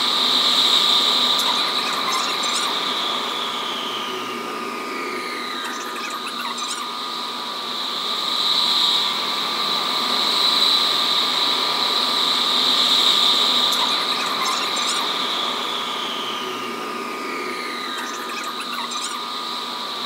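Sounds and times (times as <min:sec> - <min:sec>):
electric train drive whine: 0:00.0 - 0:20.0.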